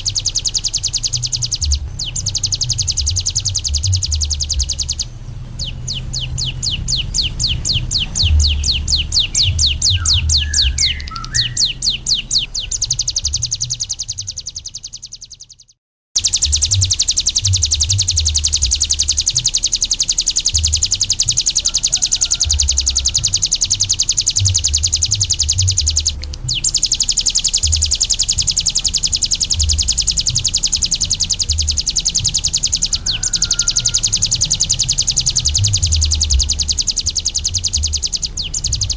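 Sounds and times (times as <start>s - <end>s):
bird singing high trill: 0.0s - 38.9s
low background rumble: 0.0s - 38.9s.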